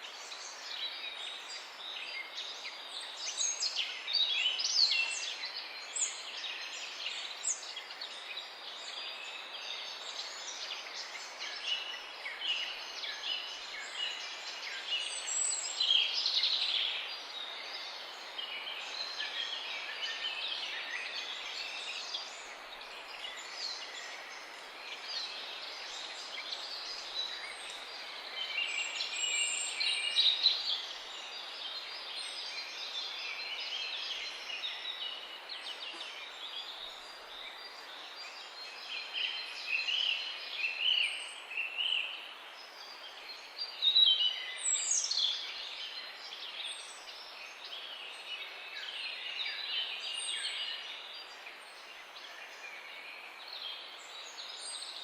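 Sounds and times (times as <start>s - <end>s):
songbirds singing and chirping: 0.0s - 55.0s
steady background hiss: 0.0s - 55.0s.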